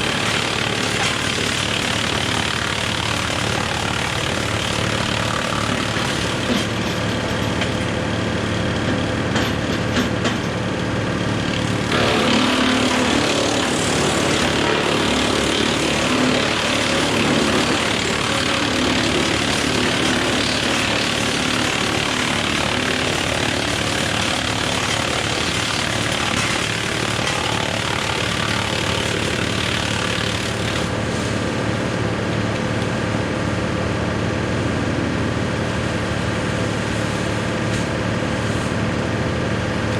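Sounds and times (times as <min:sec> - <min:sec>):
tractor engine hum: 0:00.0 - 0:39.9
wood chipper running: 0:00.0 - 0:39.9.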